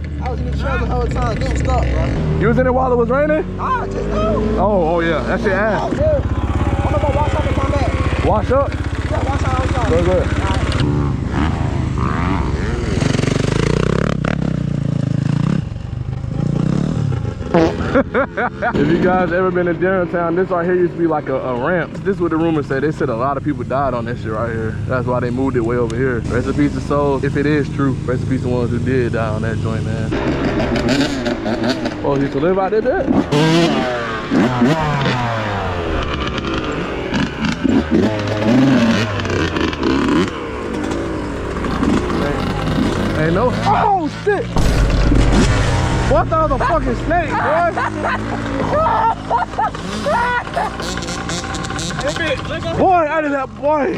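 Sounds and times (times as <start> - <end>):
dirt bike engine under throttle: 0.0 - 53.9.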